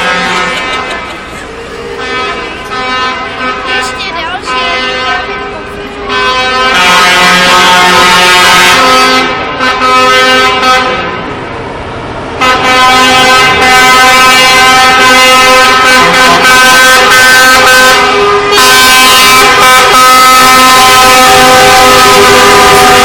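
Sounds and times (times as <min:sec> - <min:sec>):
truck air horn blasts: 0:00.0 - 0:11.4, 0:12.4 - 0:23.0.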